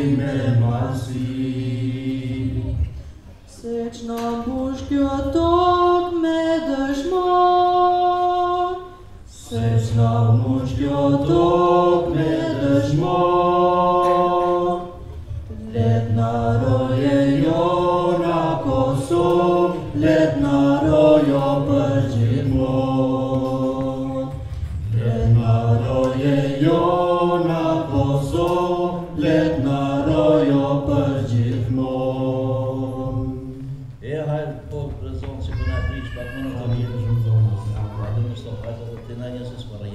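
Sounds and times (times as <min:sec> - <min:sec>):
men singing in unison: 0:00.0 - 0:02.9, 0:03.6 - 0:15.0, 0:15.6 - 0:35.0.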